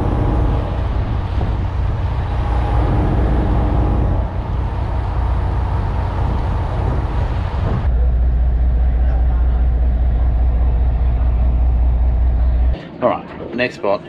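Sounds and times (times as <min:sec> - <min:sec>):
water rushing along hull: 0:00.0 - 0:12.7
boat diesel engine droning: 0:00.0 - 0:12.8.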